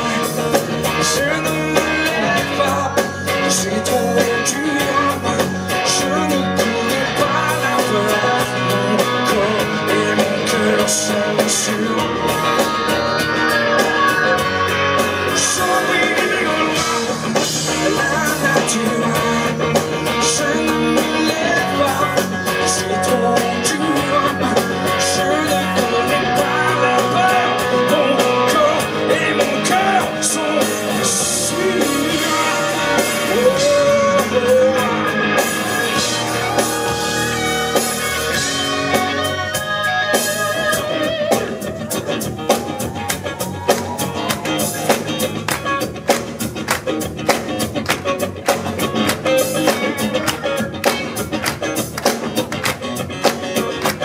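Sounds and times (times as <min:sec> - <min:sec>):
live rock band playing: 0:00.0 - 0:54.0
male lead vocals: 0:00.0 - 0:54.0.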